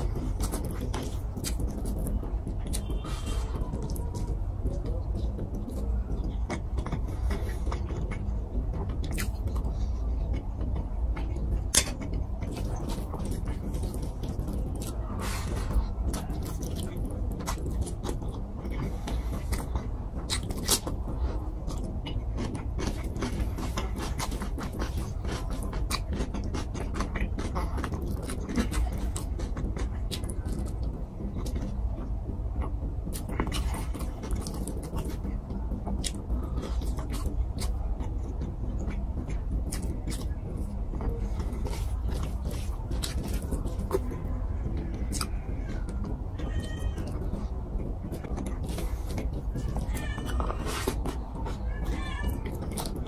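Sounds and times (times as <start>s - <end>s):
steady low hum: 0.0s - 53.0s
wet chewing and lip smacks: 0.0s - 53.0s
fingers squishing rice: 8.9s - 53.0s.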